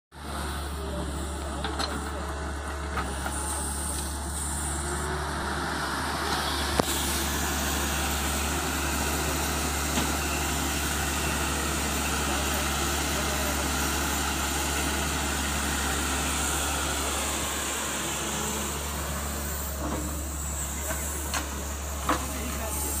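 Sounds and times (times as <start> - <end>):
excavator diesel engine running: 0.2 - 23.0.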